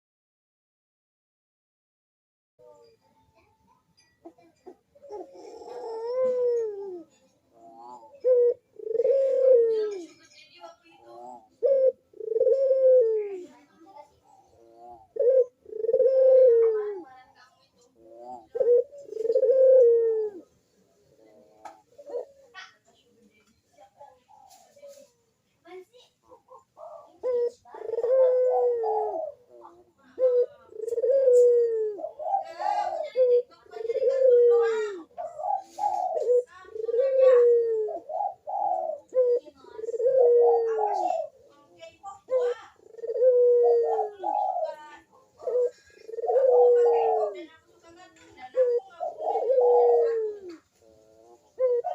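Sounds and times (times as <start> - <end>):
dove cooing: 4.2 - 23.2, 23.8 - 25.2, 26.2 - 51.9.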